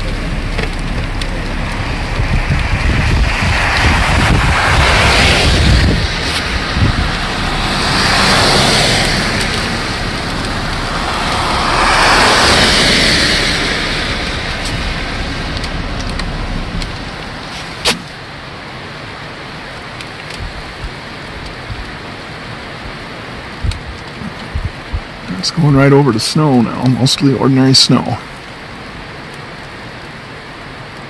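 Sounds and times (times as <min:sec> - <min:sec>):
storm wind rushing: 0:00.0 - 0:26.8.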